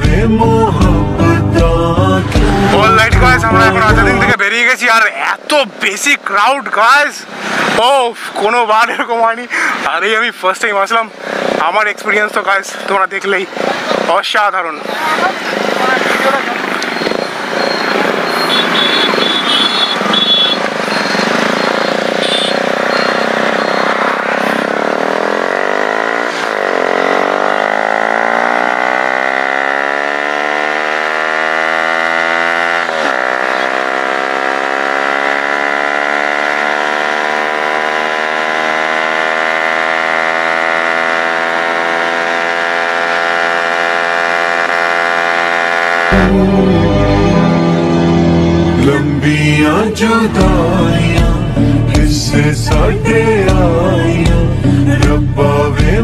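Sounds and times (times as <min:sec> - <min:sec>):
motorcycle engine accelerating: 0:00.0 - 0:04.4, 0:14.9 - 0:56.0
other motorcycle engines: 0:00.0 - 0:56.0.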